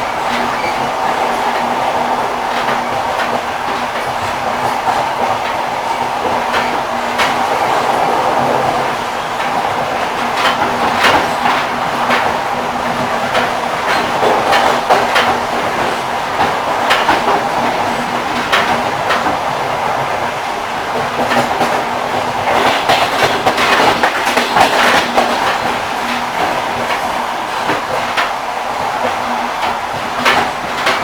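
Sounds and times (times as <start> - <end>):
moving train rumbling: 0.0 - 31.0
train wheels clacking: 0.0 - 31.0.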